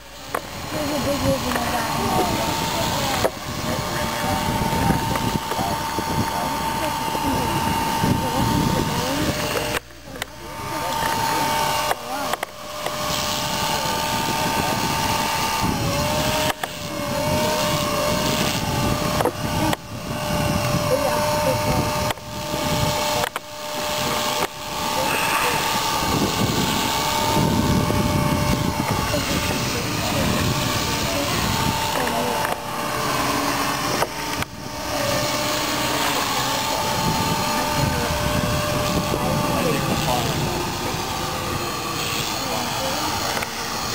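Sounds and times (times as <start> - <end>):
loud steady rushing noise: 0.0 - 43.9
rc helicopter motor whine: 0.0 - 43.9.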